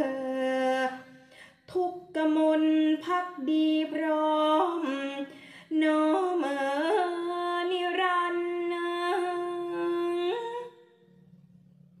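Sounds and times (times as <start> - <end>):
woman chanting: 0.0 - 10.7.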